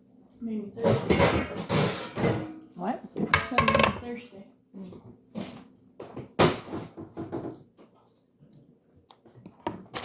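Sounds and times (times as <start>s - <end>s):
soft kitchen clattering: 0.0s - 9.9s.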